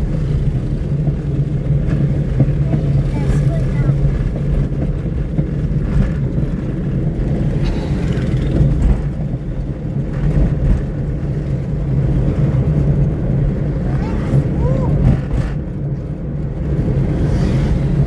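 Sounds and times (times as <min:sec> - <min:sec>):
car driving on rough road: 0:00.0 - 0:18.0.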